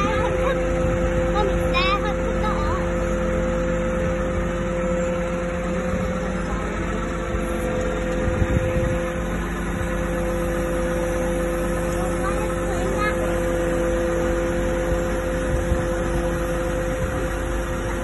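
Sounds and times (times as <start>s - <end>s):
crane engine whine and rumble: 0.0s - 18.0s.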